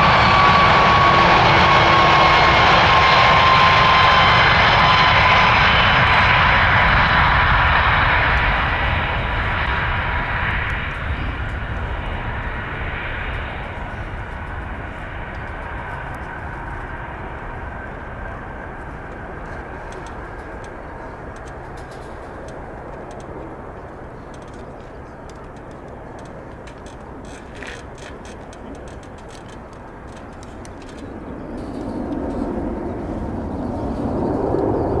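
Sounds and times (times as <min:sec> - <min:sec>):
jet plane passing: 0:00.0 - 0:35.0.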